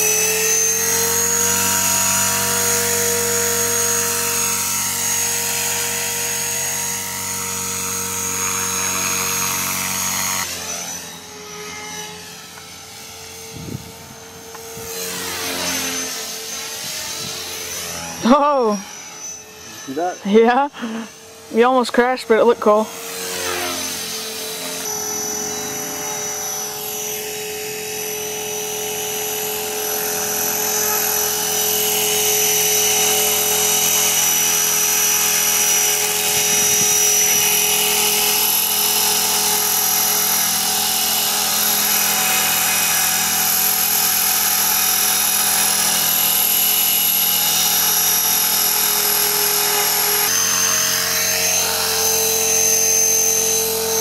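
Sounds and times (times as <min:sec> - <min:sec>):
model helicopter motor whine: 0:00.0 - 0:54.0
rotor blades whirring: 0:00.0 - 0:54.0.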